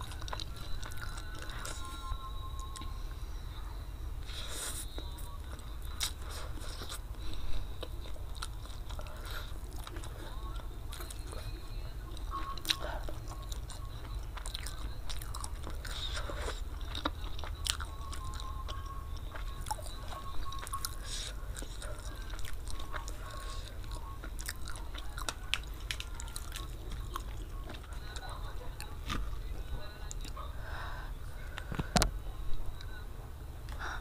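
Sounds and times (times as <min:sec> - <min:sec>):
chewing noodles: 0:00.0 - 0:03.0, 0:04.2 - 0:30.5
low hum: 0:00.0 - 0:34.0.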